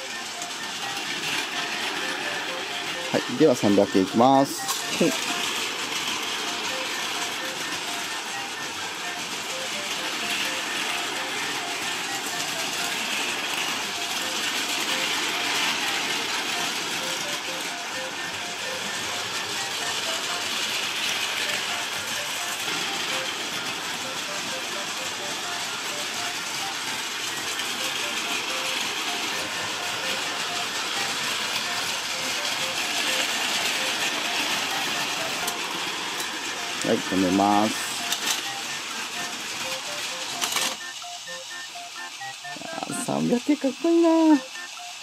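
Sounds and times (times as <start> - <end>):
wheels rattling over rails: 0.0 - 41.4
light background music: 0.0 - 45.0
toy train motors whirring: 0.0 - 45.0.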